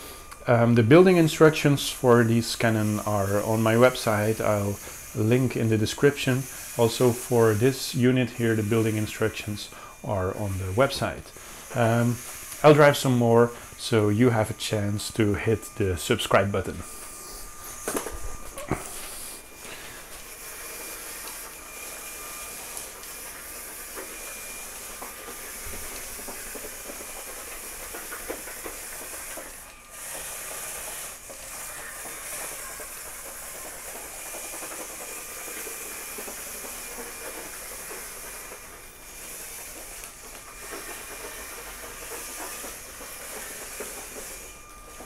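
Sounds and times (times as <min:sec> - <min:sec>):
faint motor whine: 0:00.0 - 0:45.0
robot motors whirring: 0:00.0 - 0:45.0.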